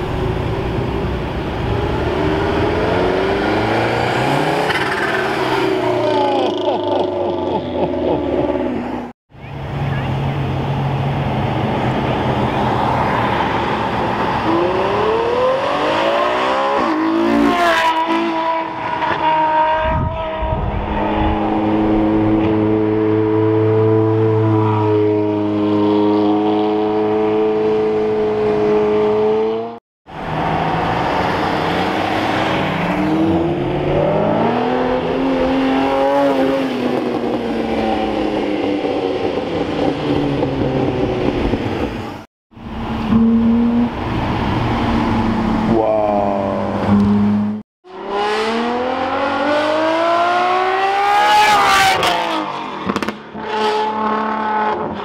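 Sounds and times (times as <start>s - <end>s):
sports car engines revving: 0.0s - 55.0s.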